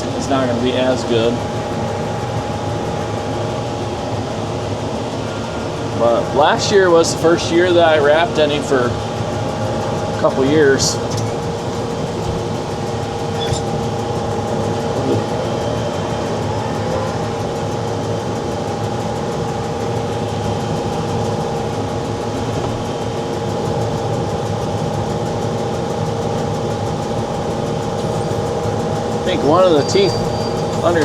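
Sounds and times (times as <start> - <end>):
tractor running under load: 0.0 - 31.0.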